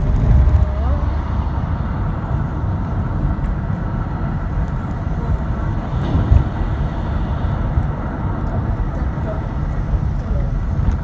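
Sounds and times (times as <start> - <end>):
car tyres and engine rumble: 0.0 - 11.0.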